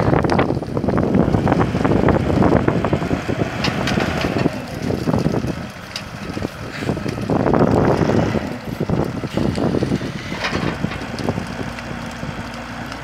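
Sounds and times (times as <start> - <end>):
brush fire crackling: 0.0 - 13.0
tractor diesel engine running: 0.0 - 13.0
wind buffeting microphone: 0.0 - 13.0.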